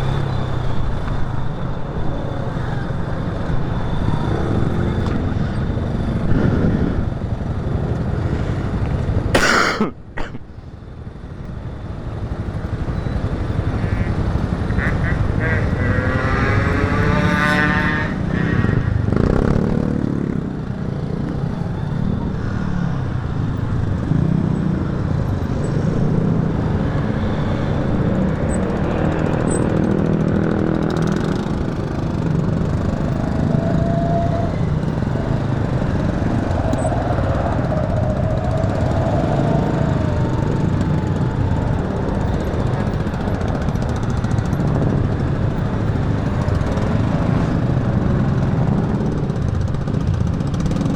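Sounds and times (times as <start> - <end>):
motorcycle engine drone: 0.0 - 50.9
road noise: 0.0 - 50.9
traffic: 0.0 - 50.9.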